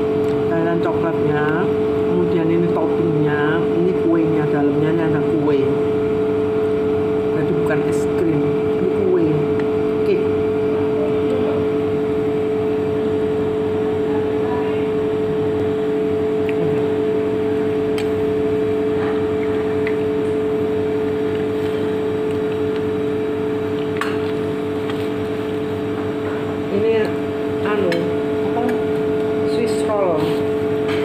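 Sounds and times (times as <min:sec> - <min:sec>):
steady machine hum: 0:00.0 - 0:31.0.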